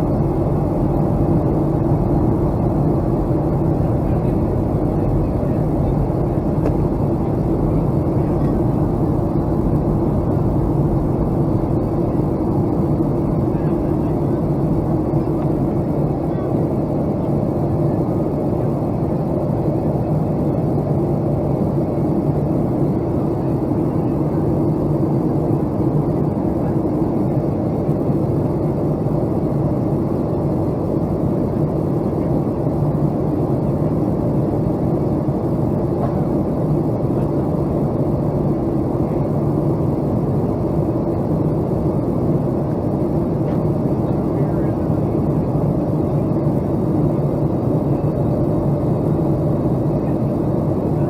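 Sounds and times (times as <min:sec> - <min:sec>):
airliner engine drone: 0:00.0 - 0:51.0.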